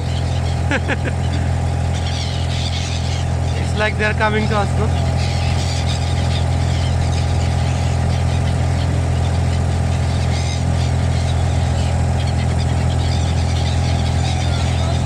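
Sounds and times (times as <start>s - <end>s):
birds chirping: 0.0s - 15.0s
motor engine droning: 0.0s - 15.0s.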